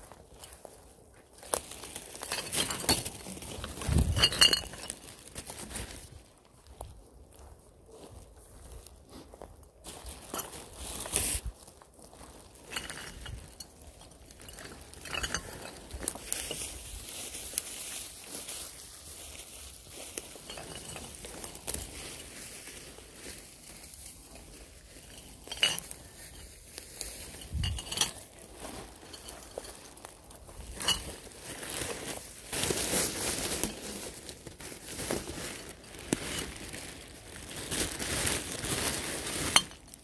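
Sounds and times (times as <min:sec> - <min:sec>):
plastic bag rustling: 0:00.0 - 0:06.5, 0:09.8 - 0:40.0
footsteps on pine needles and twigs: 0:00.0 - 0:40.0.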